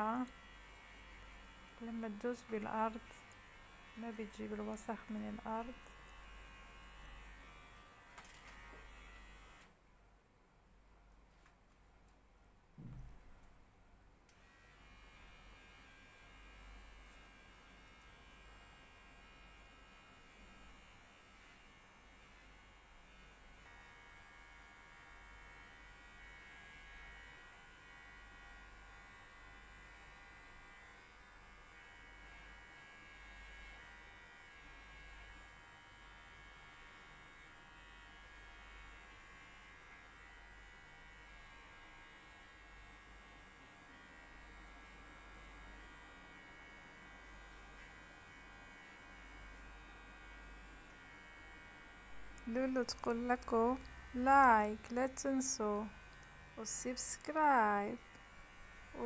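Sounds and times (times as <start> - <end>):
electric hair clipper humming: 0.0 - 9.8, 14.3 - 59.0.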